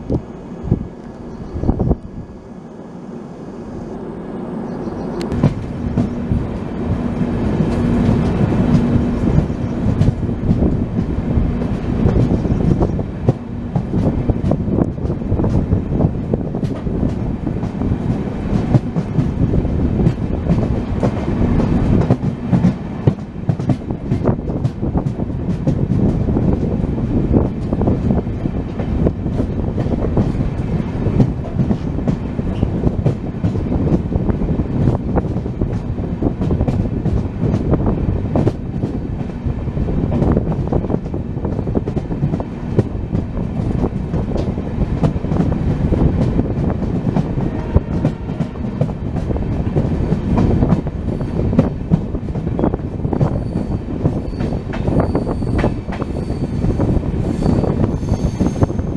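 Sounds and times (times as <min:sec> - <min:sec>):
train wheels rumbling: 0:00.0 - 0:58.9
rail clicks and knocks: 0:05.2 - 0:58.9.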